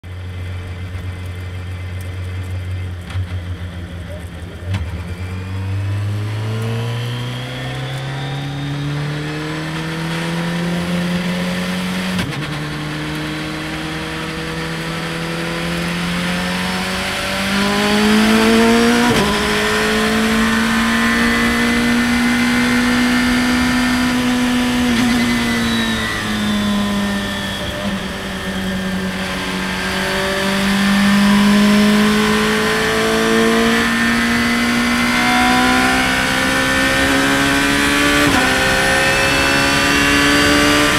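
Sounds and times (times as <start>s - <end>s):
race car engine accelerating: 4.0s - 40.9s.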